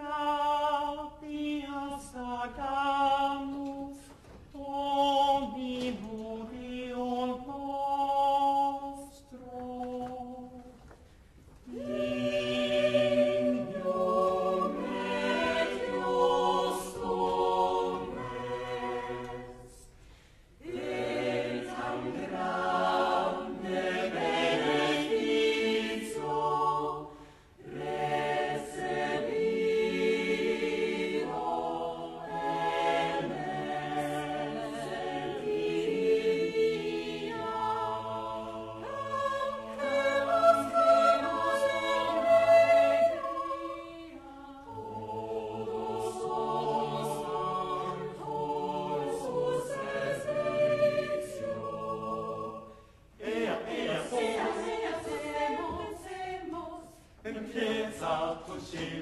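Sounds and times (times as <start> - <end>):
choir singing a cappella: 0.0 - 10.8, 11.6 - 59.0.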